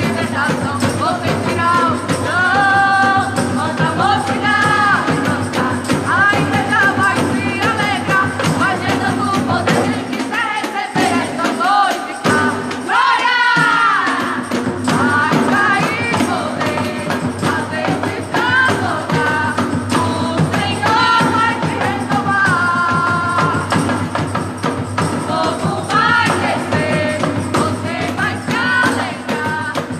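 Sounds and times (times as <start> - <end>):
drums: 0.0 - 29.9
gospel band playing and singing: 0.0 - 29.9
tambourine: 0.0 - 29.9.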